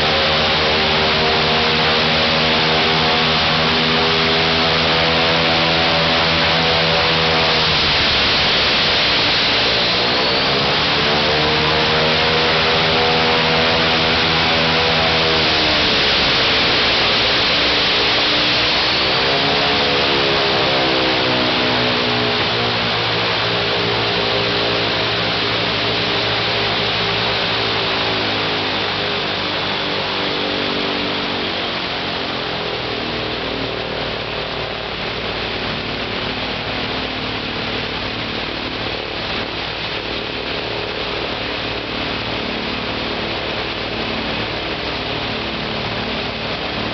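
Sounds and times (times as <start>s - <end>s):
propeller wind rush: 0.0s - 46.9s
radial aircraft engine running: 0.0s - 46.9s.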